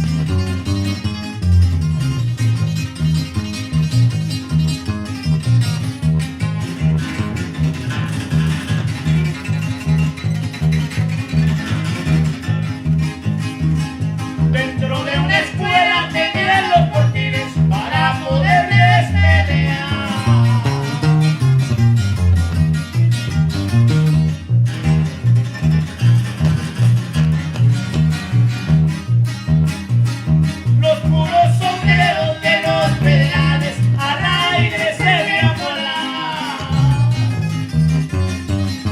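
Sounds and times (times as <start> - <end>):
plucked guitars: 0.0 - 38.9
repeating bass line: 0.0 - 38.9.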